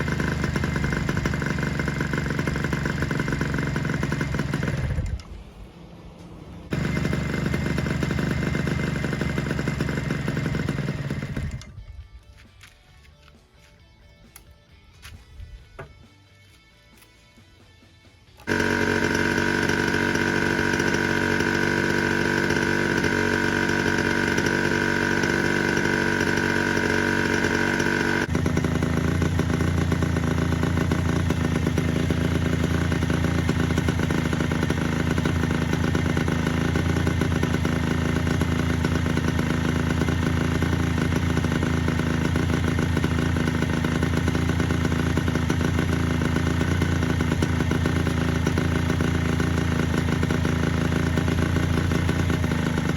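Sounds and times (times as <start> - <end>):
two-stroke engine idling unevenly: 0.0 - 11.8, 18.4 - 52.9.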